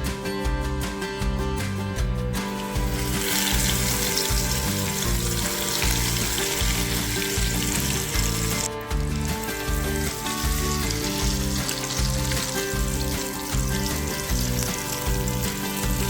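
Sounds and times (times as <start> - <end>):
background music: 0.0 - 16.0
food sizzling in a pan: 2.5 - 16.0.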